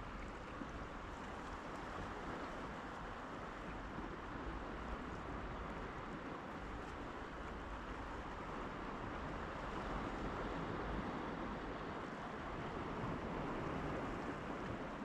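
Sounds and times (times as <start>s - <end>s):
sea surf washing on shore: 0.0s - 15.0s
wind: 0.0s - 15.0s.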